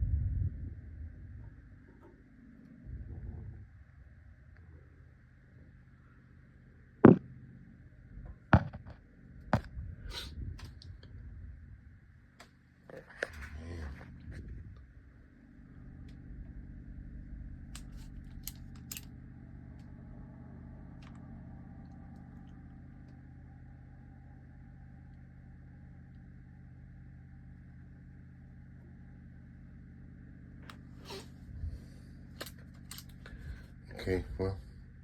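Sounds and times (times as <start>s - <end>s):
low machine hum: 0.0s - 35.0s.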